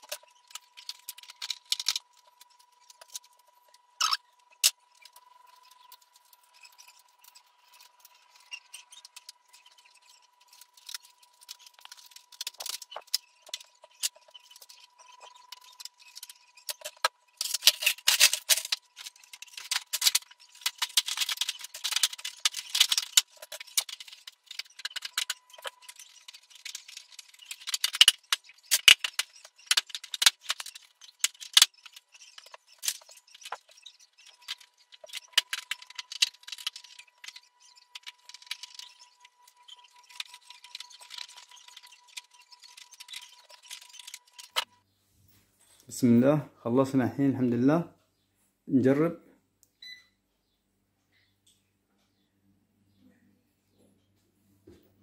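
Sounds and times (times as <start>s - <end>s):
plastic panels clicking and rattling: 0.0s - 3.4s, 4.0s - 44.7s.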